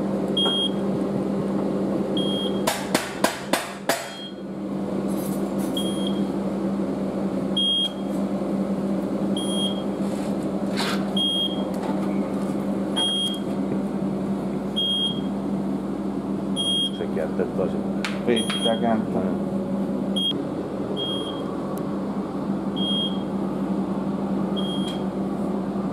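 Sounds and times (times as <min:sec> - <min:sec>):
steady machine hum: 0:00.0 - 0:25.9.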